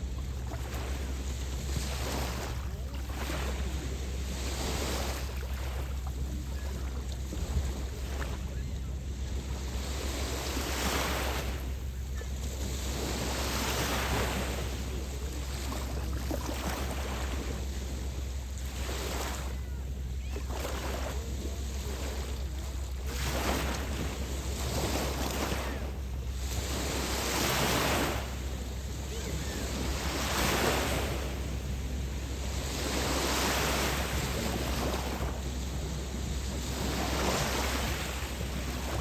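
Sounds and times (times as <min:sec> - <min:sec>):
lake waves washing on beach: 0:00.0 - 0:39.0
wind rumble on microphone: 0:00.0 - 0:39.0.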